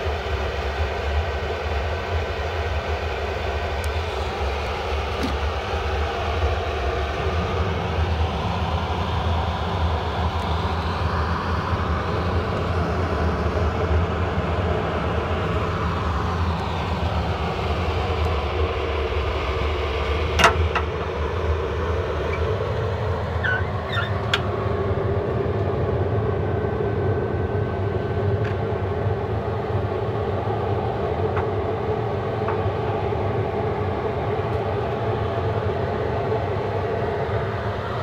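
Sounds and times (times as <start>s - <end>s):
burner flame and fan rushing: 0.0s - 38.0s.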